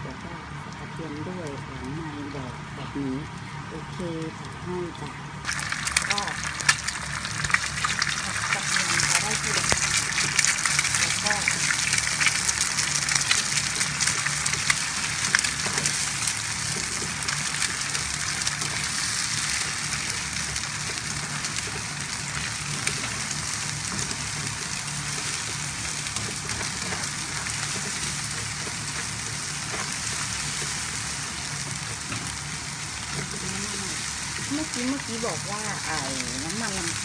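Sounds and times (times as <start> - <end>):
eggs sizzling in a frying pan: 0.0 - 37.0
spatula scrambling eggs: 5.5 - 37.0.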